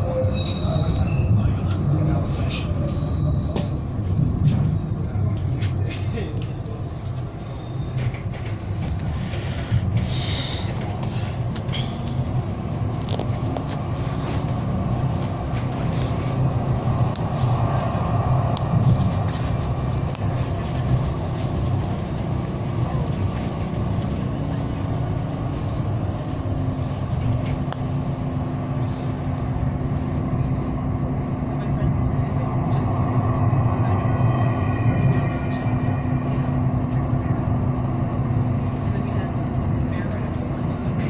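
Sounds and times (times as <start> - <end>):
wheels rumbling on track: 0.0 - 41.0.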